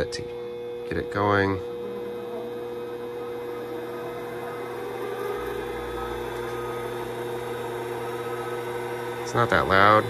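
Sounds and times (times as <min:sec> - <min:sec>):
lathe motor humming: 0:00.0 - 0:10.0.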